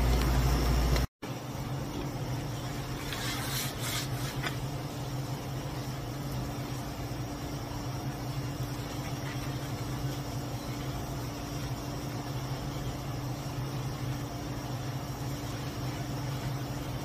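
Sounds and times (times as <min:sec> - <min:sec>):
low electrical hum: 0:00.0 - 0:17.0
room noise hiss: 0:00.0 - 0:17.0.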